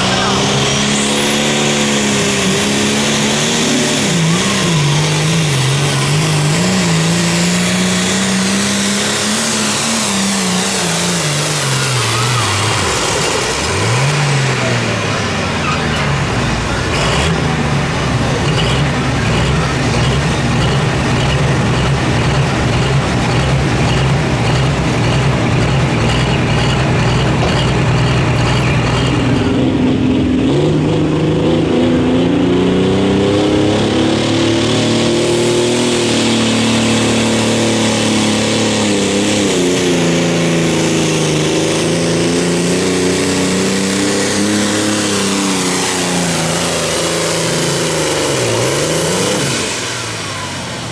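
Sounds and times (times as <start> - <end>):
vehicle engine revving: 0.0 - 50.9.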